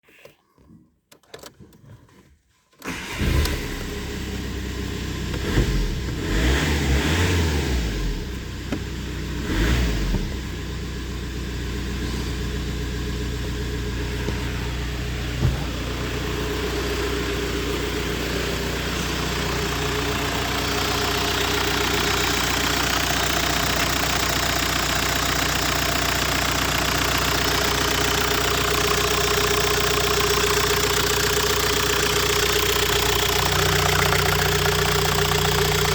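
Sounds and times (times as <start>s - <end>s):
diesel engine starting and idling: 2.8s - 35.9s.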